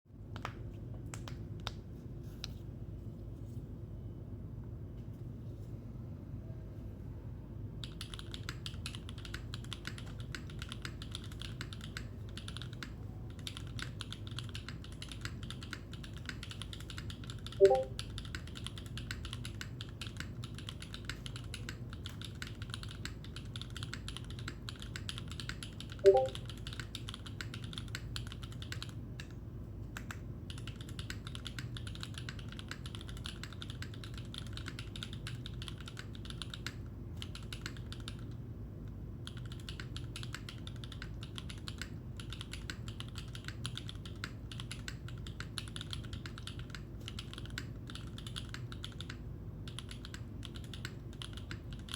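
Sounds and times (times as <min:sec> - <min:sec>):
mechanical keyboard typing: 0:07.8 - 0:29.3, 0:29.9 - 0:38.4, 0:39.2 - 0:51.9.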